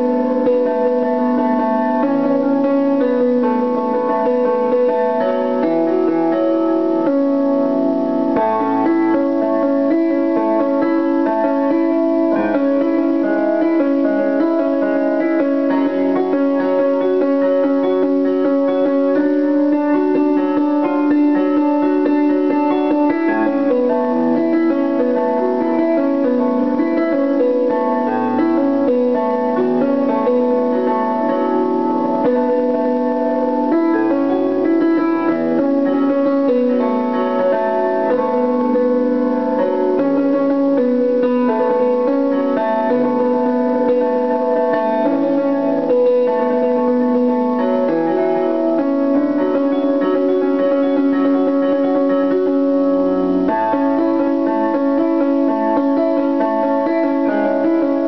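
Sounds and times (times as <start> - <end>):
digital piano playing chords: 0.0 - 58.0.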